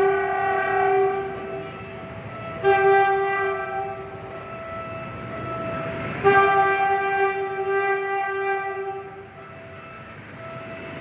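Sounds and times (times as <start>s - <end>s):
train horn blasts: 0.0s - 10.6s
train rumbling: 0.0s - 11.0s.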